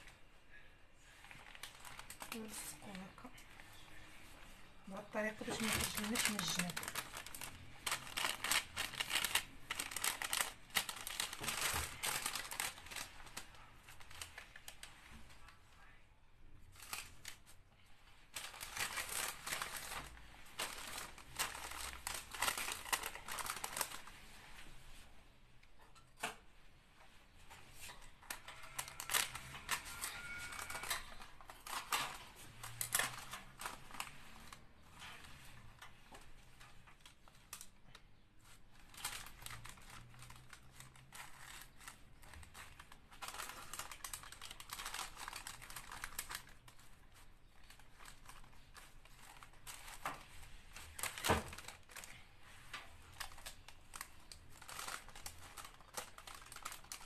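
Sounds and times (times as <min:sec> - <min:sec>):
parchment paper crinkling: 0:01.0 - 0:16.0, 0:16.6 - 0:24.7, 0:27.5 - 0:57.0.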